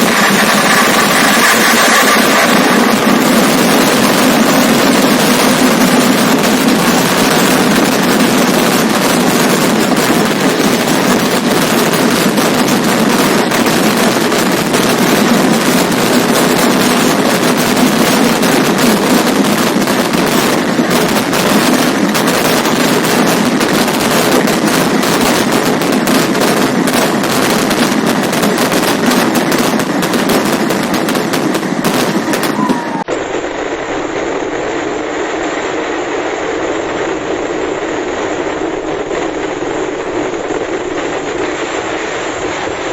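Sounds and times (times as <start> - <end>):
rapid firecracker explosions: 0.0 - 42.9
steady dull noise: 0.0 - 42.9.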